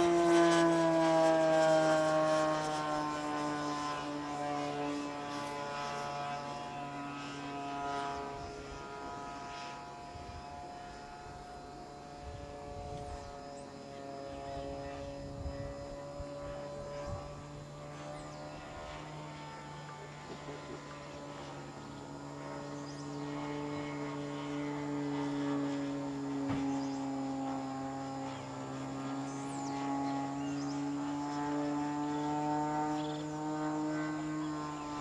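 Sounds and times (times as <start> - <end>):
model airplane motor buzzing: 0.0 - 35.0.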